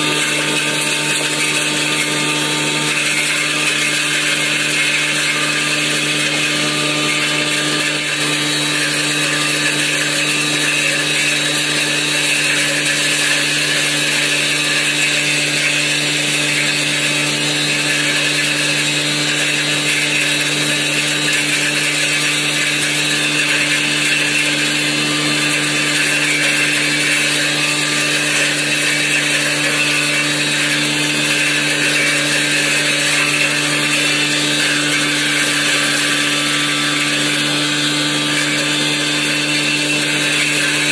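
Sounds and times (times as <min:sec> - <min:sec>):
grinding machine running: 0:00.0 - 0:40.9.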